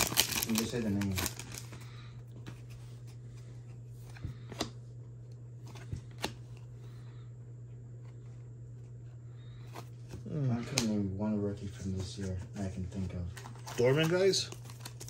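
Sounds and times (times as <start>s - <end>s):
low hum: 1.1s - 13.8s.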